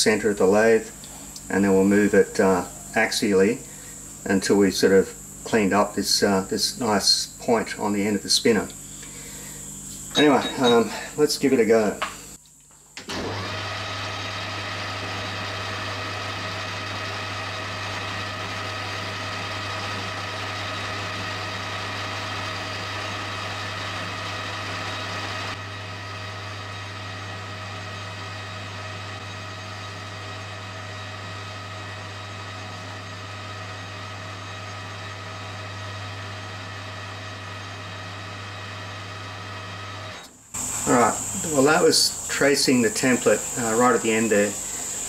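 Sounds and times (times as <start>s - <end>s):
metal lathe motor hum and whine: 5.0s - 5.5s, 7.3s - 12.4s, 13.1s - 45.0s.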